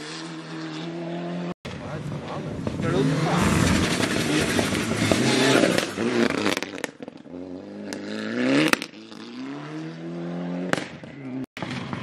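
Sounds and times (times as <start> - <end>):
rally car engine revving: 0.0 - 11.4.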